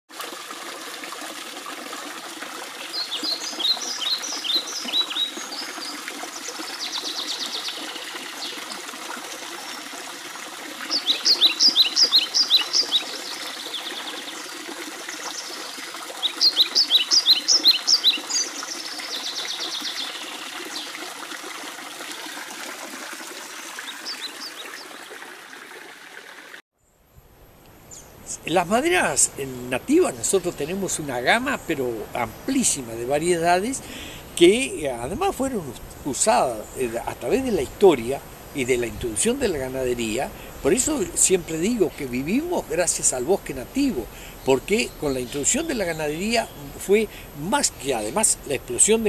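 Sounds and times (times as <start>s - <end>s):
trickling water: 0.1s - 26.6s, 28.3s - 49.0s
songbird singing: 2.8s - 8.9s, 10.8s - 21.0s, 23.8s - 25.0s, 26.8s - 49.0s.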